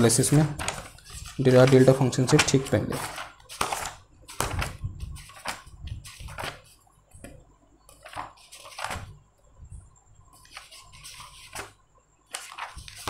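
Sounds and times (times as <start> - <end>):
notebook pages rustling: 0.0 - 9.2, 10.3 - 13.0.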